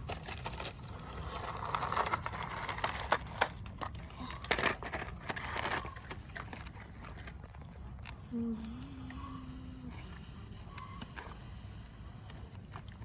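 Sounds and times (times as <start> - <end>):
plastic toys clattering and scraping: 0.0 - 8.3, 10.0 - 13.0.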